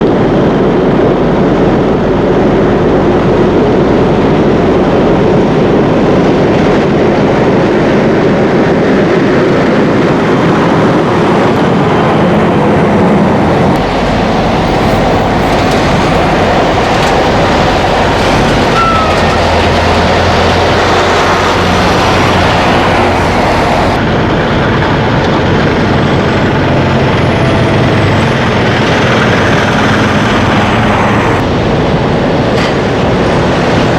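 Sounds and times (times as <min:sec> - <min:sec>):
heavy vehicles rumbling past: 0:00.0 - 0:33.9.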